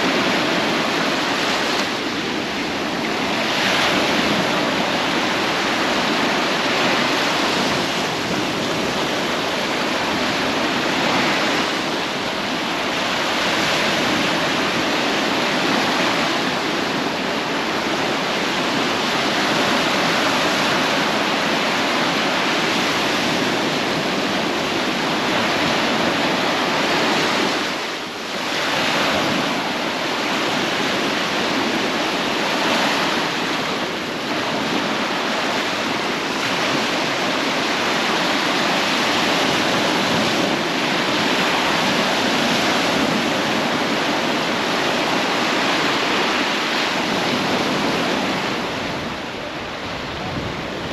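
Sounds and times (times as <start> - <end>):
waves breaking on beach: 0.0 - 50.9.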